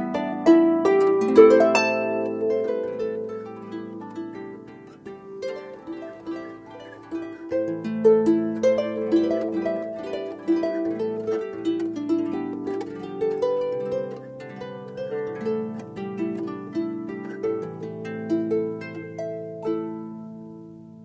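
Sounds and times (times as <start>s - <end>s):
instrumental music with plucked notes: 0.0s - 21.0s.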